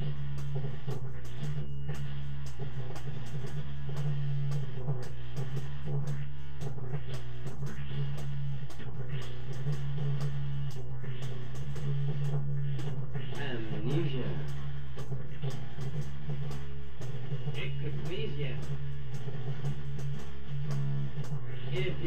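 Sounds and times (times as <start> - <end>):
steady ticking beat: 0.0 - 22.0
sustained low note: 0.0 - 22.0.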